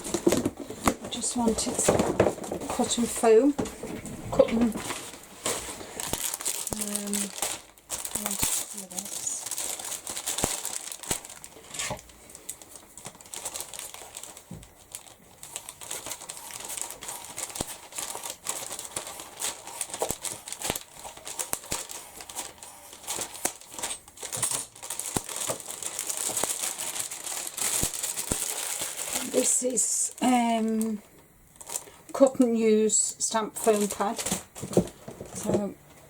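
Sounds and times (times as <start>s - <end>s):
plastic packaging crinkling: 0.0s - 36.0s.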